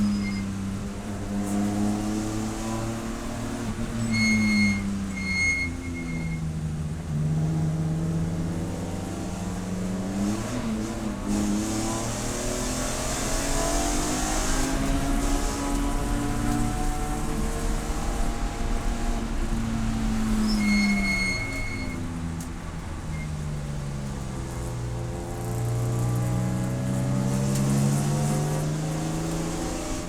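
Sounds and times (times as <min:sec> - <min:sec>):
race car engine: 0:00.0 - 0:30.0.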